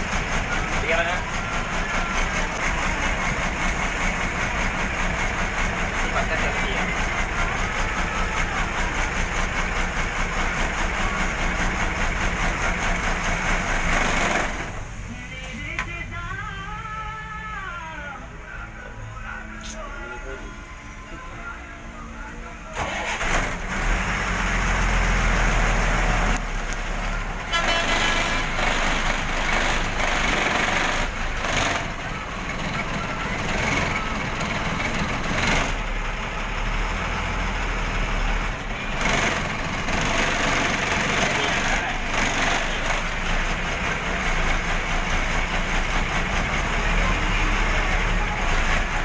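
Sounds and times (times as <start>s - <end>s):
large vehicle engine running: 0.0s - 49.0s.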